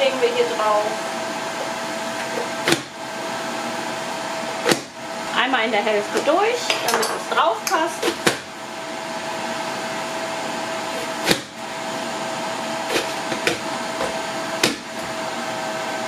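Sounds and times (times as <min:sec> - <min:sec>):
hot-air fan whirring: 0:00.0 - 0:16.0.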